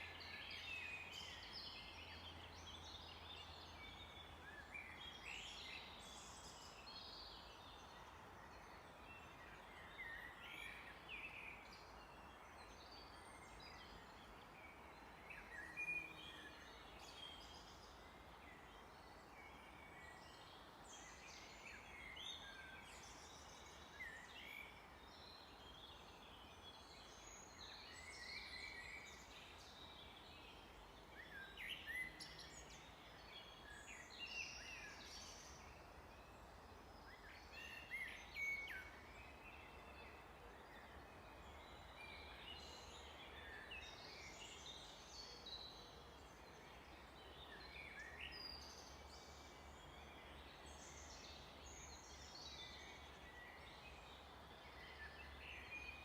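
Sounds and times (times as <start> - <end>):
small birds singing and chirping: 0.0 - 56.0
steady background hiss: 0.0 - 56.0.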